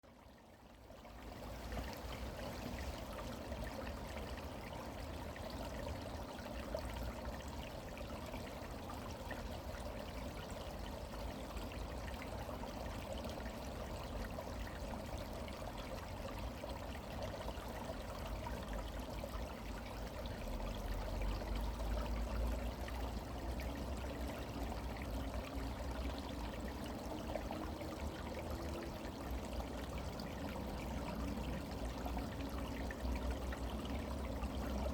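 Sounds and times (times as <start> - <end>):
stream flowing: 0.1 - 34.9.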